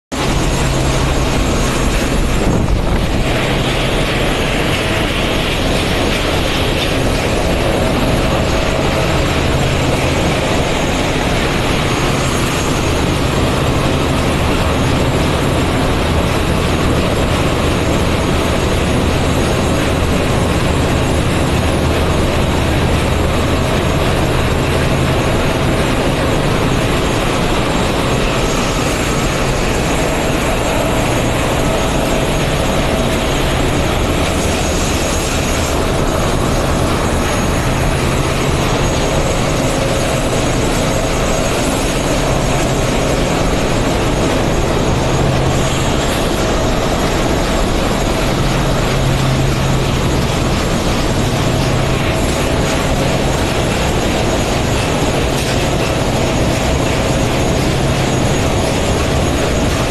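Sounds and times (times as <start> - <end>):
engine room machinery roar: 0.0 - 59.9
constant low hum: 0.1 - 59.9.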